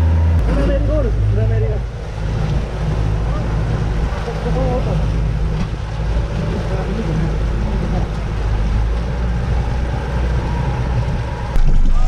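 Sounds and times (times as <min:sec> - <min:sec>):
motorboat engine droning: 0:00.0 - 0:12.0
wind and water noise: 0:00.0 - 0:12.0.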